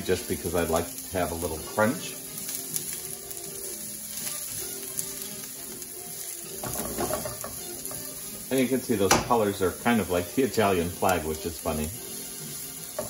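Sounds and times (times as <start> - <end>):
soft background music: 0.0 - 13.0
vegetables sizzling in oil: 0.0 - 13.0.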